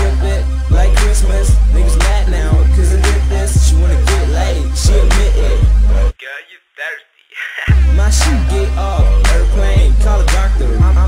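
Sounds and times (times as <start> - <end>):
hip hop music: 0.0 - 11.0.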